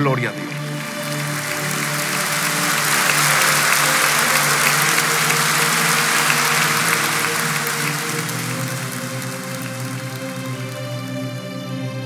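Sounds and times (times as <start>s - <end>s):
audience applauding: 0.0s - 11.6s
background music: 0.0s - 12.0s.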